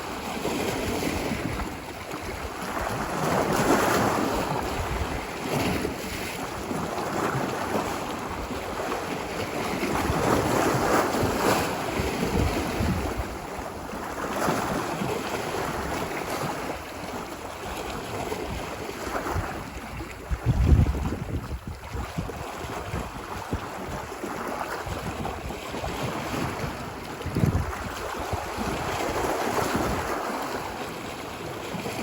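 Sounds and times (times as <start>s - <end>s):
ocean waves breaking: 0.0s - 32.0s
wind buffeting microphone: 0.0s - 32.0s.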